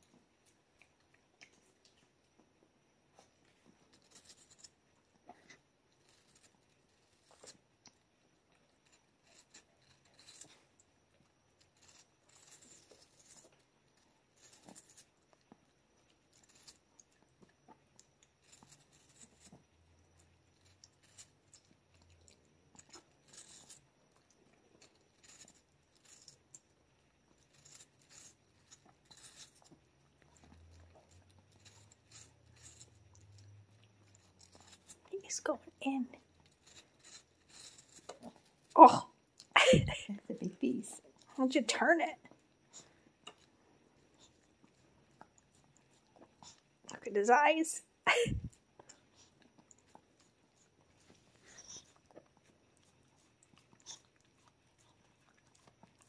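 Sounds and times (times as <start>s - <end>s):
dog chewing apple: 3.2s - 41.4s, 42.2s - 47.0s, 48.4s - 56.0s.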